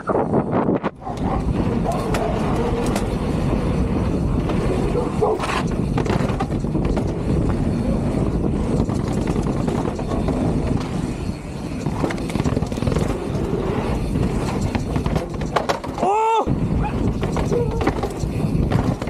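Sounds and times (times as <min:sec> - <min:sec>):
vehicle low rumble: 0:00.0 - 0:19.0.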